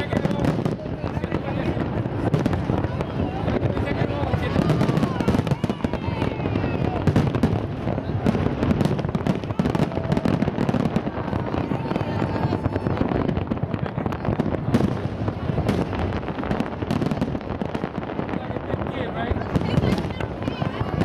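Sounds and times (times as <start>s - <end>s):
fireworks booming and crackling: 0.0s - 21.0s.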